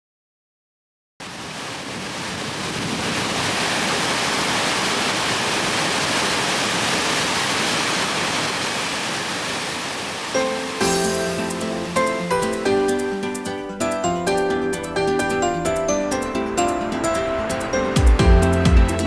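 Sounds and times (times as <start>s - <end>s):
waterfall rushing: 1.2s - 19.0s.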